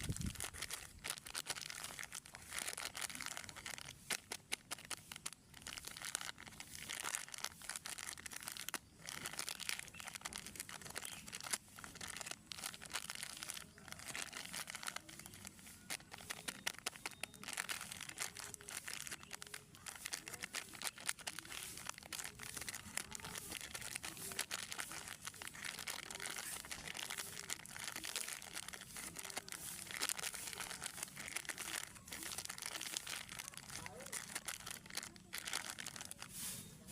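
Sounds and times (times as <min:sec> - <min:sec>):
plastic wrappers crinkling: 0:00.0 - 0:36.9.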